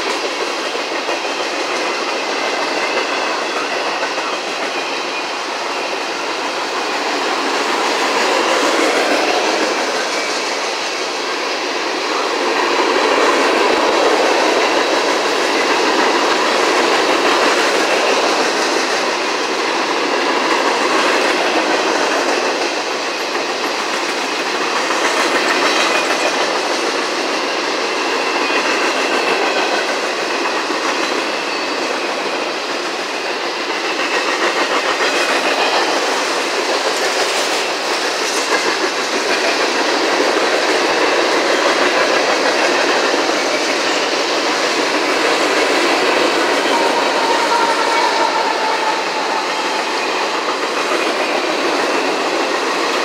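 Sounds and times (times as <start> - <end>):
steel wheels rolling on rail: 0.0 - 53.0.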